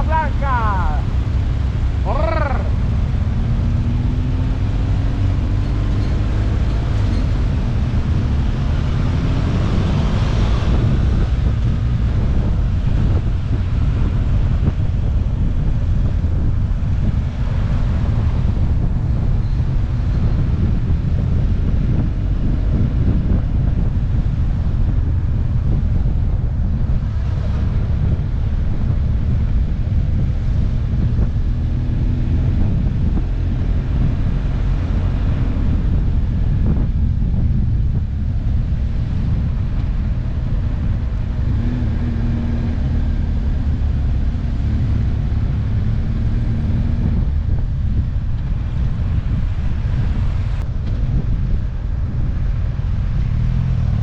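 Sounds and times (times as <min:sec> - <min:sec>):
motorcycle engine drone: 0:00.0 - 0:54.0
wind buffeting microphone: 0:00.0 - 0:54.0.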